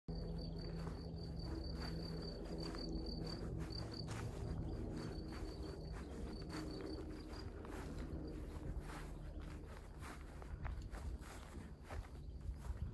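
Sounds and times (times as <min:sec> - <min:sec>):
cricket chirping: 0:00.1 - 0:12.9
footsteps on grass: 0:00.1 - 0:12.9.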